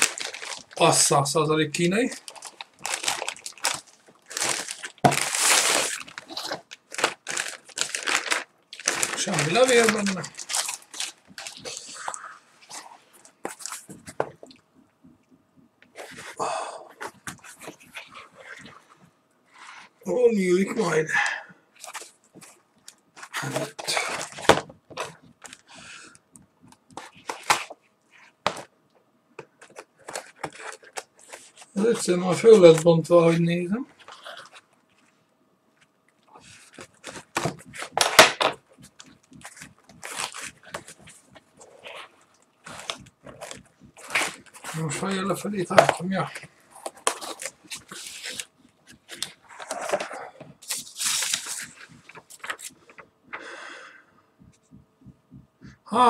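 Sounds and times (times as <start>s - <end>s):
plastic wrapping rustling: 0.0s - 14.6s, 21.8s - 28.7s, 29.4s - 35.2s, 35.8s - 53.5s.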